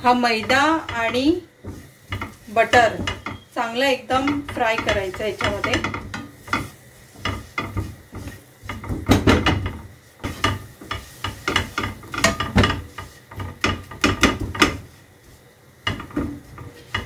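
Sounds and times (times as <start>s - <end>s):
spatula scraping frying pan: 0.0s - 17.0s.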